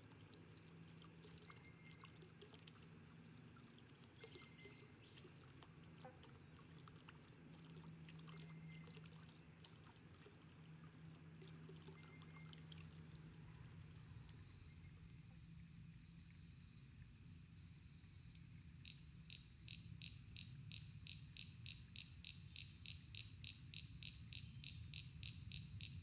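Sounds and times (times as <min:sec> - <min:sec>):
water trickling: 0:00.0 - 0:23.4
low steady hum: 0:00.0 - 0:26.0
small drips and clicks: 0:00.0 - 0:26.0.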